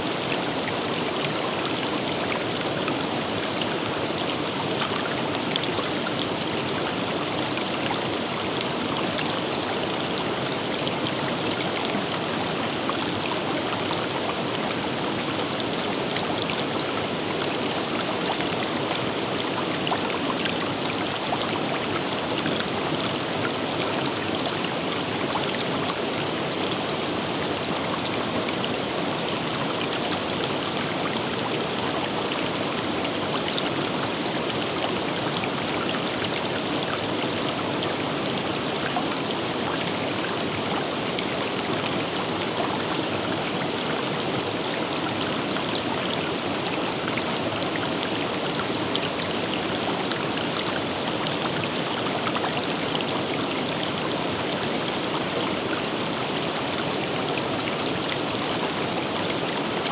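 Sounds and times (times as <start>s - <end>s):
water splashes and trickles: 0.0s - 59.9s.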